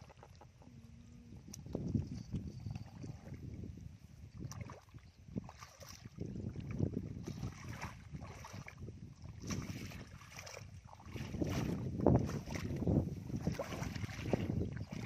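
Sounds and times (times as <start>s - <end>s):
wind rumble on microphone: 0.0s - 15.0s
feet sloshing through muddy water: 1.4s - 15.0s.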